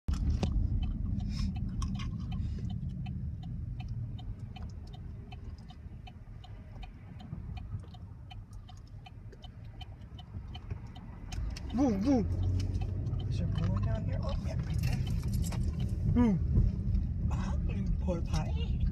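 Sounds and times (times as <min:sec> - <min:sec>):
road and engine rumble: 0:00.0 - 0:18.9
turn signal ticking: 0:00.1 - 0:18.9.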